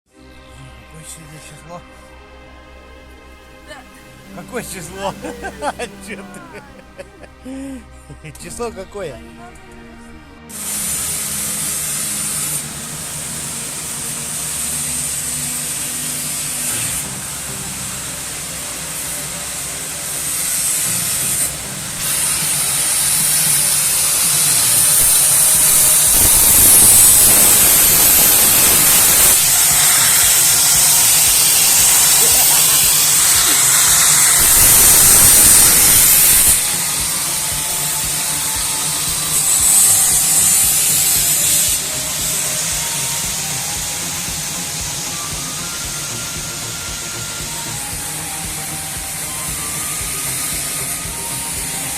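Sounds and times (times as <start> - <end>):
blizzard wind hissing: 0.2 - 51.9.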